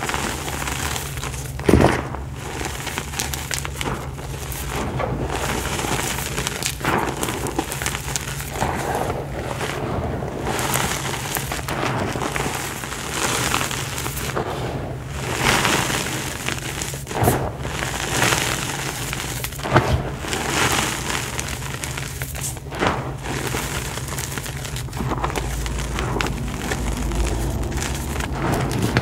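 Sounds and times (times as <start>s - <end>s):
hands crunching dry dirt: 0.0s - 14.4s, 15.2s - 29.0s
hiss of falling grains: 2.3s - 29.0s.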